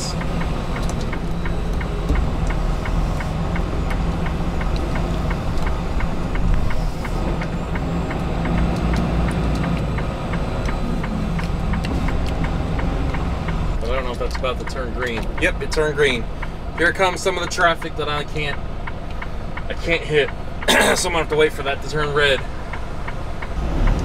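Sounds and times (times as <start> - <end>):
diesel truck engine idling: 0.0 - 24.0
turn signal relay ticking: 0.0 - 24.0.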